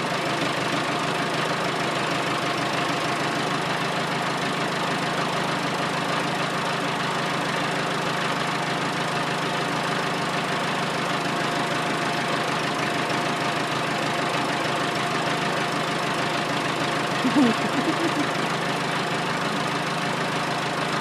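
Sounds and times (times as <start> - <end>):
diesel engine running steadily: 0.0 - 21.0.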